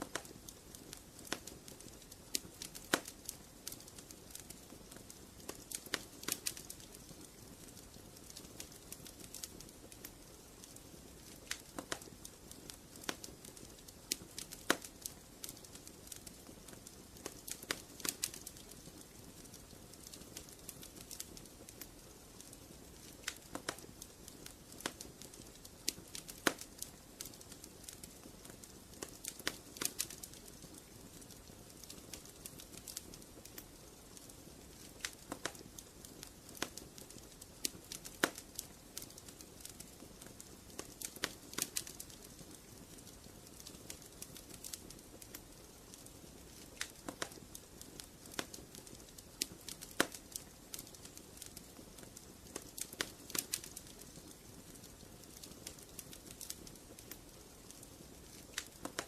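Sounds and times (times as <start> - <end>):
burning logs popping: 0.0 - 59.0.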